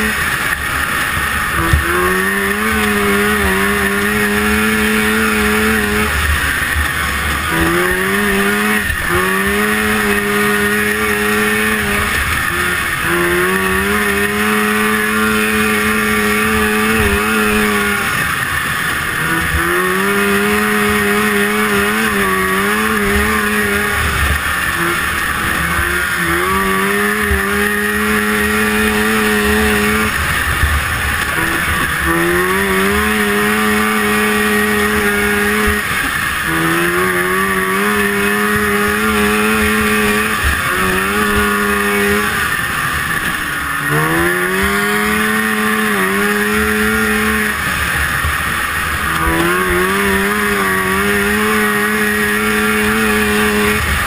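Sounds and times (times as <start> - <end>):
snowmobile engine running hard: 0.0 - 54.0.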